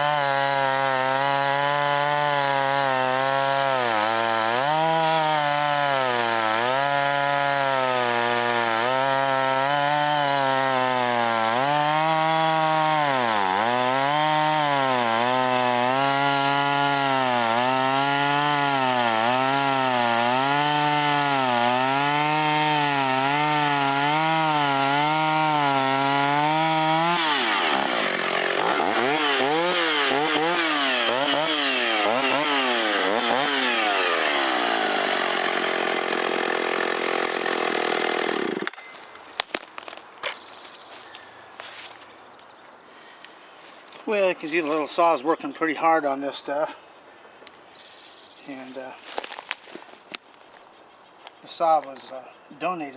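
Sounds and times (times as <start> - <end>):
chainsaw cutting log: 0.0 - 42.1, 43.6 - 45.1, 48.5 - 50.5.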